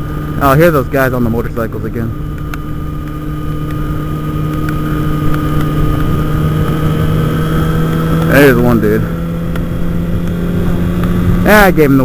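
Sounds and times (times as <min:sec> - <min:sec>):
motorcycle engine running: 0:00.0 - 0:12.0
wind rushing over microphone: 0:02.1 - 0:11.9.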